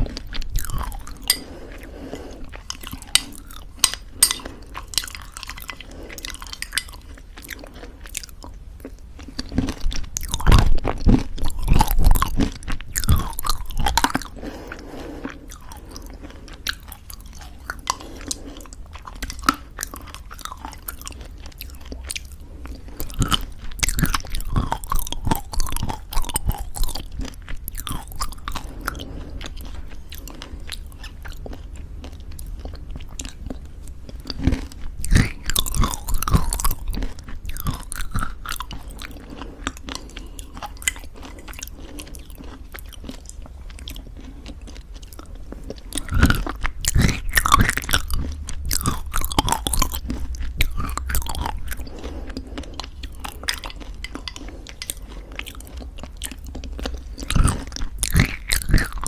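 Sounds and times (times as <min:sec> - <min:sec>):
chewing granola crunches: 0:00.0 - 0:59.0.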